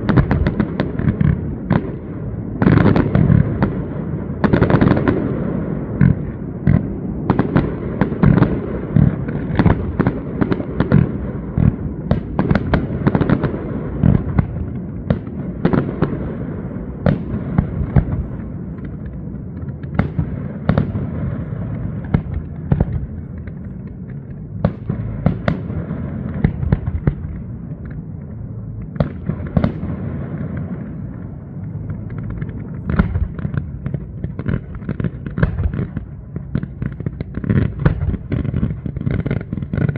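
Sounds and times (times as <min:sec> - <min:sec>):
continuous low rumble: 0:00.0 - 0:39.9
fireworks bangs and crackles: 0:00.0 - 0:39.9.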